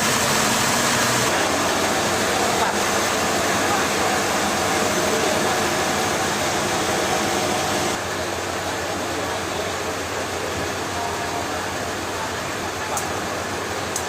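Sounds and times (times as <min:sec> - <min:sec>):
machinery rushing hum: 0:00.0 - 0:14.0.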